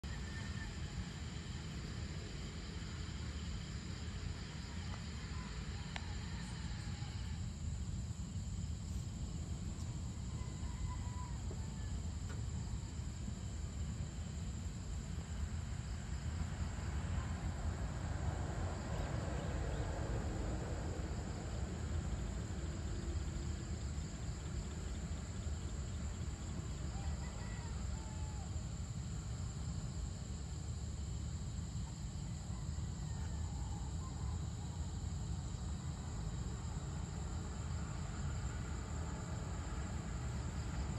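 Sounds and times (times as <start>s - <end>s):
high insect chorus: 0.0s - 40.9s.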